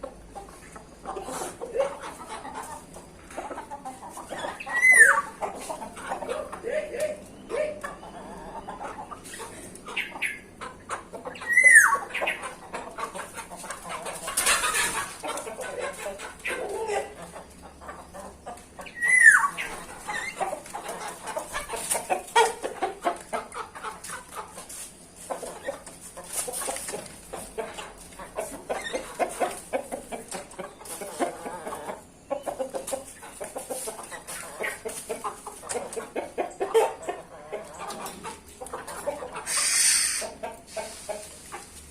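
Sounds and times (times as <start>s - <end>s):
birds clucking and chattering: 0.0s - 41.9s.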